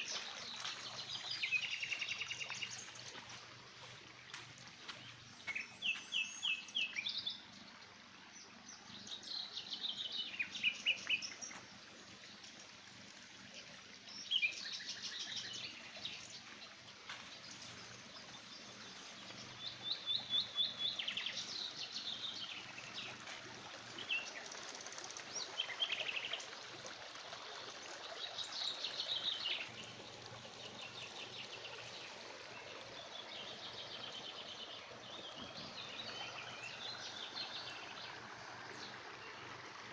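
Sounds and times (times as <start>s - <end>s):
songbird singing: 0.0s - 11.7s, 14.1s - 26.6s, 28.1s - 39.7s
faint outdoor background noise: 0.0s - 39.9s.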